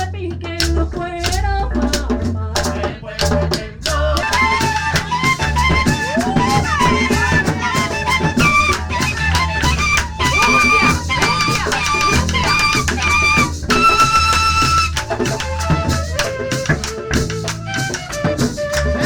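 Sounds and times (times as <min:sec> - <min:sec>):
music with bass and drums: 0:00.0 - 0:19.0.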